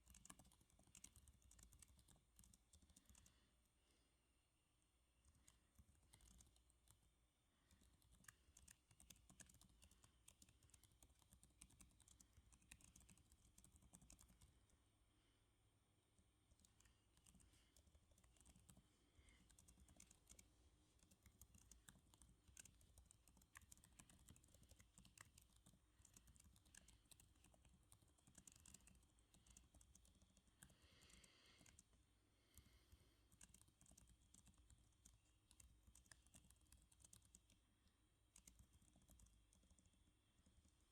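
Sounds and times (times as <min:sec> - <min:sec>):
computer keyboard typing: 0:00.0 - 0:03.4, 0:05.2 - 0:14.7, 0:16.5 - 0:32.0, 0:32.6 - 0:37.6, 0:38.2 - 0:40.9.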